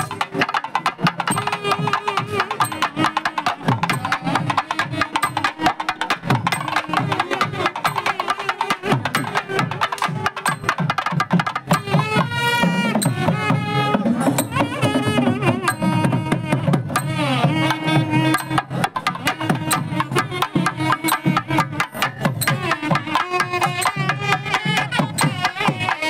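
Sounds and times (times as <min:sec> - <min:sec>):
double-reed pipes sliding melody: 0:00.0 - 0:10.8, 0:11.6 - 0:26.0
barrel drums played fast: 0:00.0 - 0:26.0.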